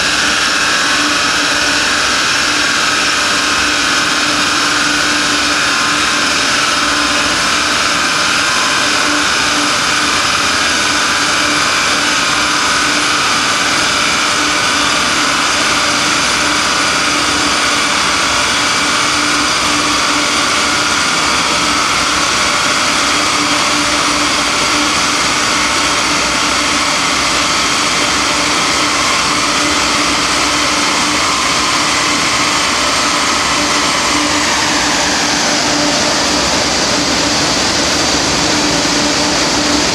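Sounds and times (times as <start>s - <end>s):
cooling fan roar: 0.0s - 39.9s
diesel car engine running: 0.0s - 39.9s.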